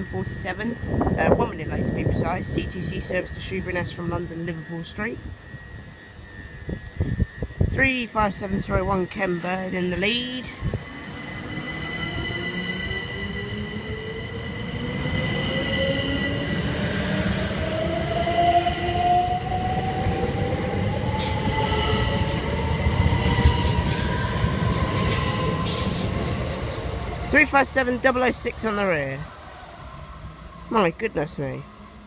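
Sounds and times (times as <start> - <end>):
electric train traction whine: 0.0 - 32.0
low train rumble: 0.0 - 32.0
steady high tone: 0.0 - 32.0.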